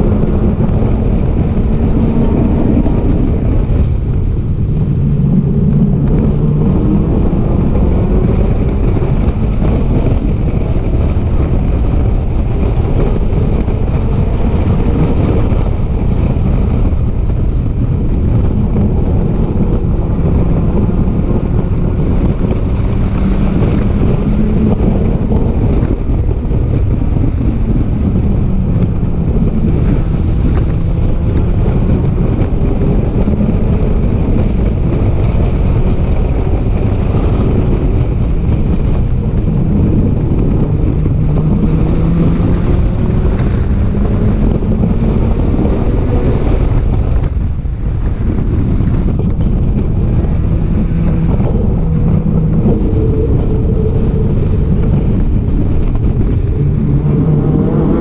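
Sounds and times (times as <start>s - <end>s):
race car engine: 0.0s - 58.0s
wind noise on microphone: 0.0s - 58.0s.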